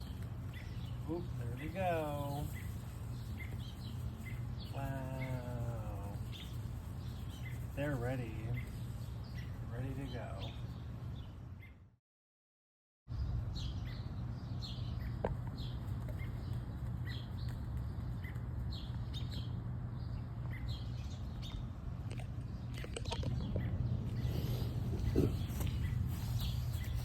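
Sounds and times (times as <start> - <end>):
low outdoor rumble: 0.0 - 11.6, 13.1 - 27.0
small birds chirping: 0.0 - 11.9, 13.1 - 27.0.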